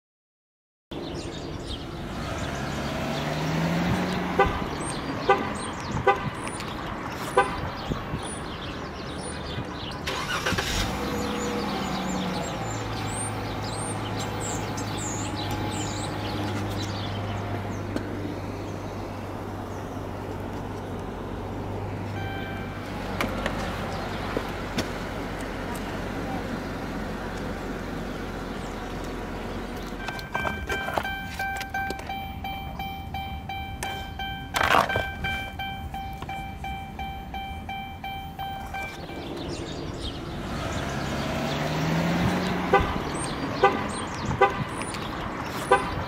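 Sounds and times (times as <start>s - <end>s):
car engine cranking and idling: 1.6s - 46.0s.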